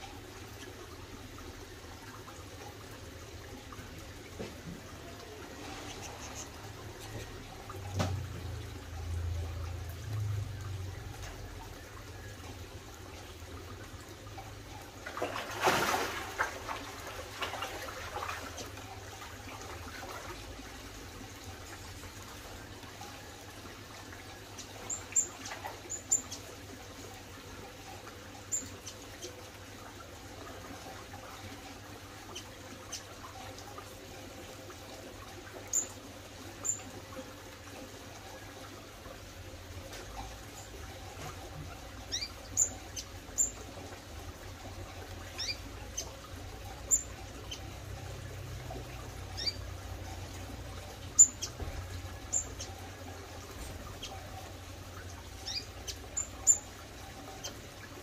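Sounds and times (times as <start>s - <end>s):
water trickling: 0.0s - 58.0s.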